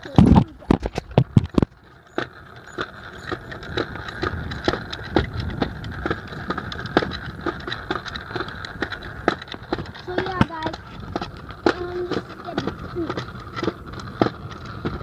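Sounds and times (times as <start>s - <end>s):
wheels rolling over concrete: 0.0s - 15.0s.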